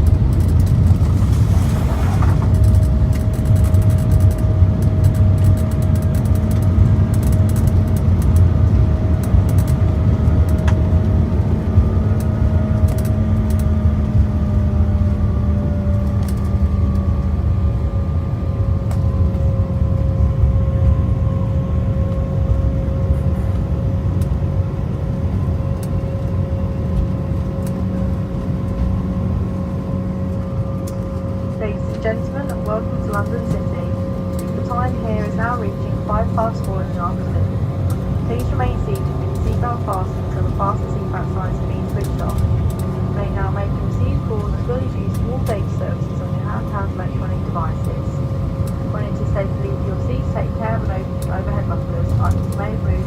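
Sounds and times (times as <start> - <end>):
jet engine whine: 0.0 - 53.0
jet engines rumbling: 0.0 - 53.0.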